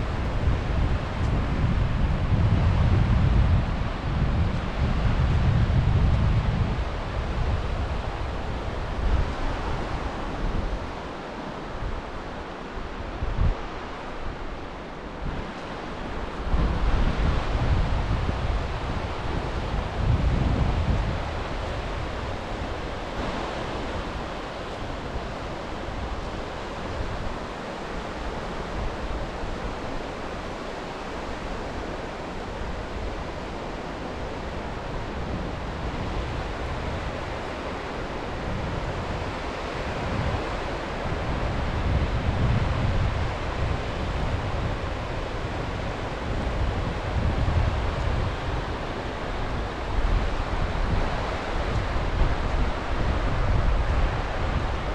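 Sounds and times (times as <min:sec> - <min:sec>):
sea waves washing on shore: 0:00.0 - 0:54.9
wind buffeting microphone: 0:00.0 - 0:54.9.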